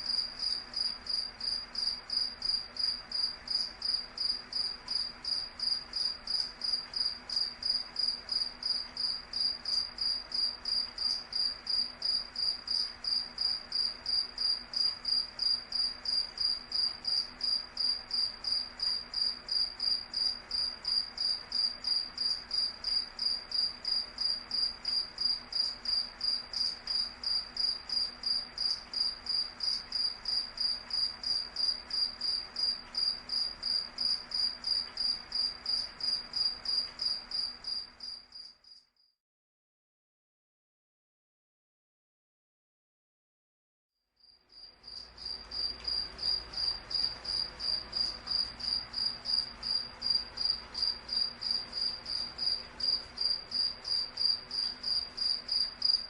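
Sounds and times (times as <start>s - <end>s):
cricket chirping: 0.0s - 39.1s, 44.2s - 56.0s.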